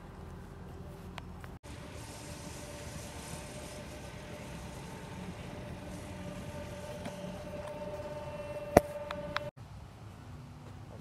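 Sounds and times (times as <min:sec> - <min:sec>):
distant earth-moving machinery humming: 0:00.0 - 0:09.6.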